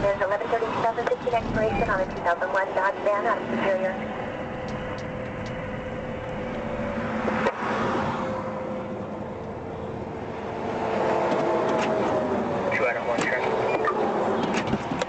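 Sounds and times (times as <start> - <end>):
vehicle running with low hum: 0.0 - 15.0.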